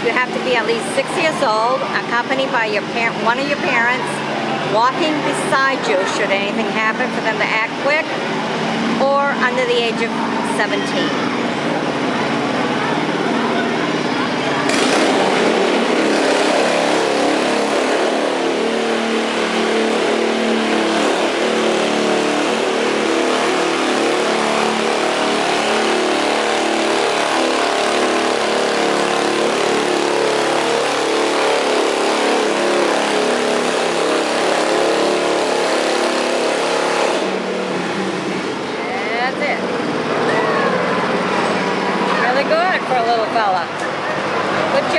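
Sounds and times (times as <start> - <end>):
riding lawn mower engine running: 0.0 - 44.9.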